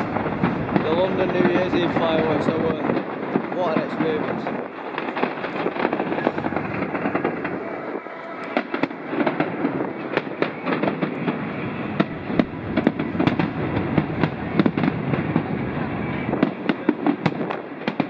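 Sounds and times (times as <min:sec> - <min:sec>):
fireworks crackling and banging: 0:00.0 - 0:18.0.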